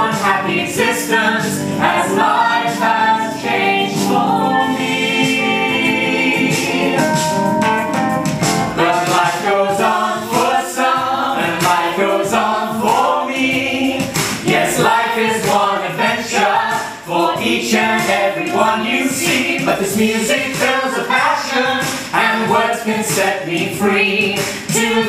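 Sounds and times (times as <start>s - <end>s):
group singing in harmony: 0.0s - 7.6s, 8.7s - 25.0s.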